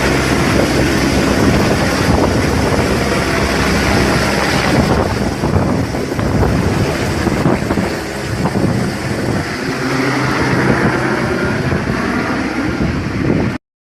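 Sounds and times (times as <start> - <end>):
helicopter engine noise: 0.0 - 13.6
helicopter rotor chopping: 0.0 - 13.6
high whine: 0.0 - 13.6
low hum: 0.0 - 13.6.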